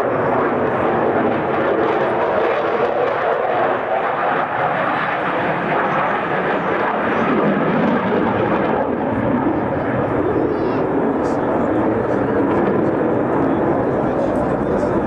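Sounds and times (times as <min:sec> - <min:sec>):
jet fighter engine roar: 0:00.0 - 0:15.0.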